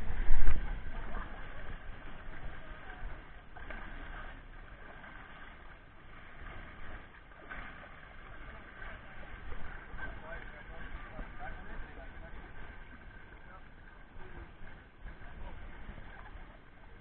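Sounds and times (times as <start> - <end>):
faint voices: 0.0 - 17.0
water splashing and sloshing: 0.0 - 17.0.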